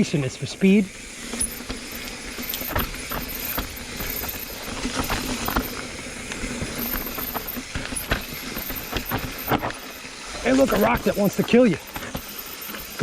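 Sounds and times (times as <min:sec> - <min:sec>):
bike tyres on dirt and rock: 0:00.0 - 0:13.0
freewheel hub ticking: 0:00.0 - 0:13.0
bike knocking and rattling: 0:00.7 - 0:13.0.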